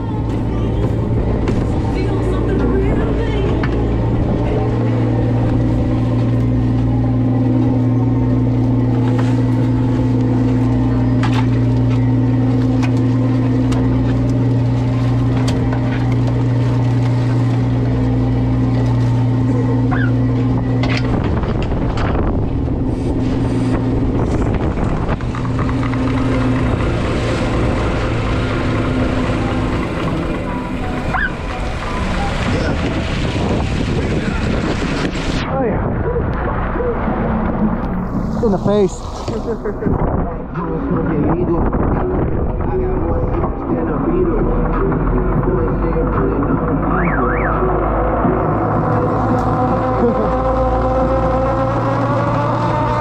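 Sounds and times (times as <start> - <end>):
boat engine drone: 0.0 - 53.0.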